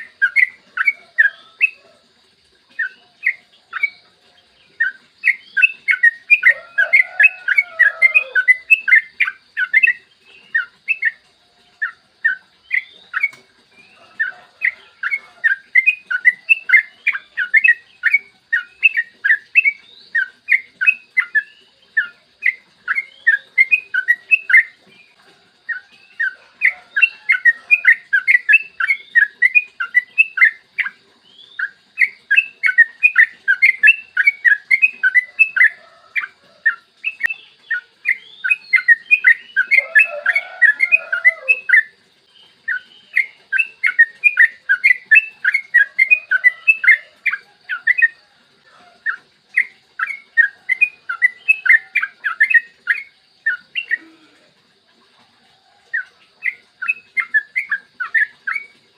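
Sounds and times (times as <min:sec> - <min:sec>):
bulbul bubbly chattering song: 0:00.0 - 0:58.9.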